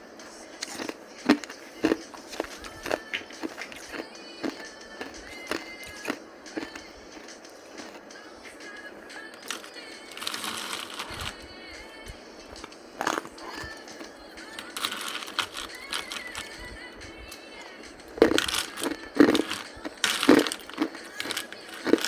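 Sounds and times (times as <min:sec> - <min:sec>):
ice crunching between teeth: 0:00.6 - 0:11.5, 0:12.6 - 0:22.0.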